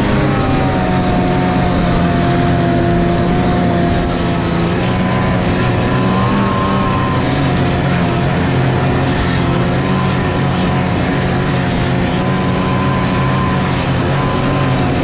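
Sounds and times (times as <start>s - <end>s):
dense rushing noise: 0.0s - 15.0s
snowmobile engine running: 0.0s - 15.0s.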